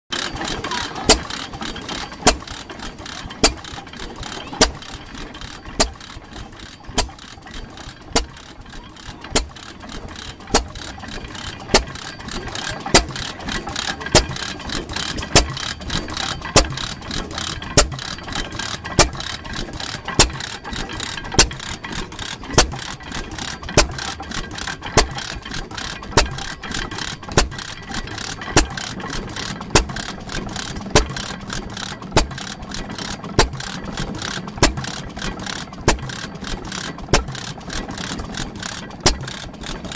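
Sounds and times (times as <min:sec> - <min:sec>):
engine parts clicking: 0:00.1 - 0:39.9
hoist engine beating: 0:00.1 - 0:39.9.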